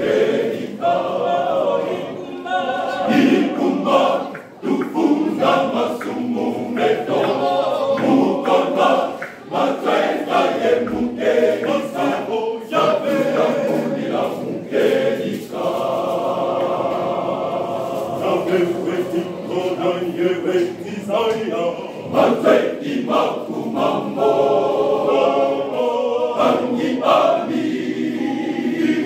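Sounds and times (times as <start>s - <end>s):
men's choir singing unaccompanied: 0.0s - 29.0s.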